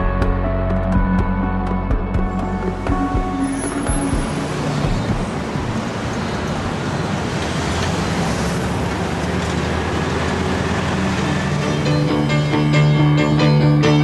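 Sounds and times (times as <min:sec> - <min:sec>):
road traffic noise: 0:01.4 - 0:14.0.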